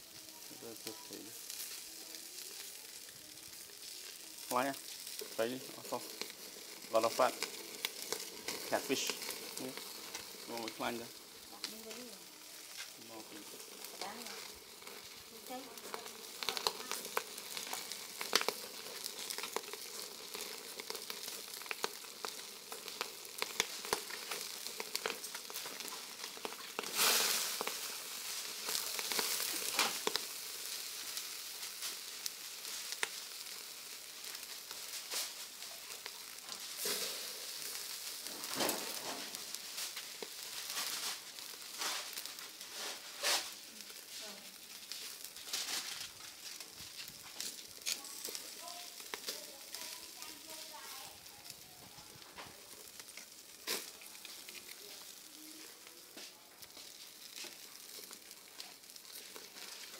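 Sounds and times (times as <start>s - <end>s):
fish sizzling on grill: 0.0s - 59.9s
hissing flare-ups: 0.0s - 59.9s.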